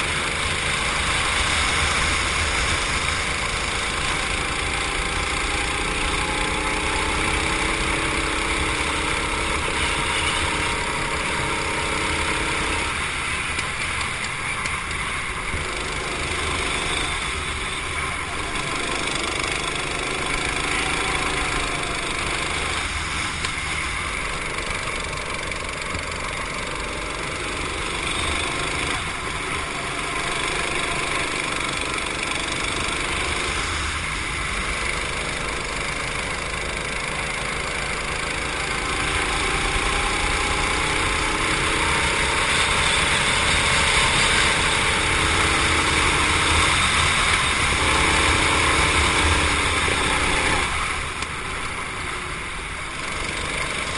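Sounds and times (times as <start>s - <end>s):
kart engine revving: 0.0s - 53.9s.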